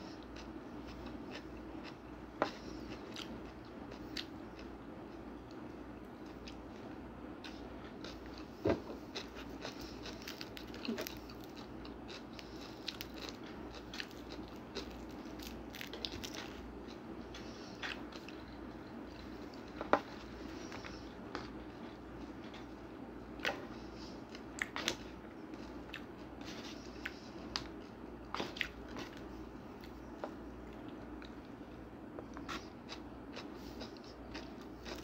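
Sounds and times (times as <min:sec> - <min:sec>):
steady low hum: 0:00.0 - 0:35.0
biting and chewing food: 0:00.2 - 0:22.8, 0:23.4 - 0:35.0.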